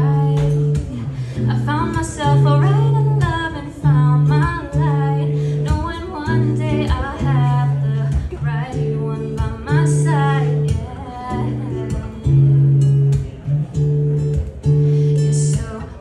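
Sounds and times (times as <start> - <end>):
woman singing: 0.0 - 13.2, 15.1 - 16.0
strummed acoustic guitar: 0.0 - 16.0.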